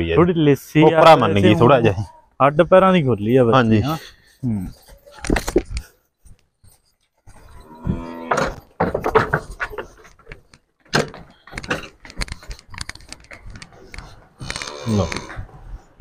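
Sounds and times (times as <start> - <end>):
hooves clattering on wooden planks: 2.6 - 16.0.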